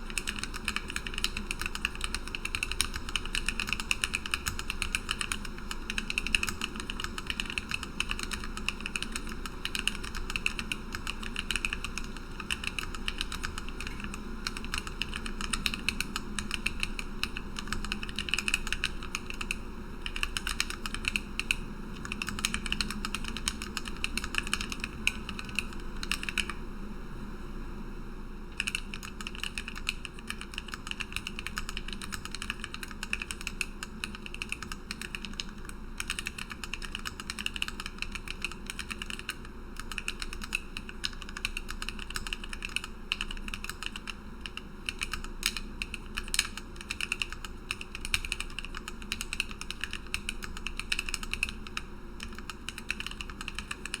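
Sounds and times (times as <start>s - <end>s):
fast typing on mechanical keyboard: 0.0s - 26.6s, 28.6s - 54.0s.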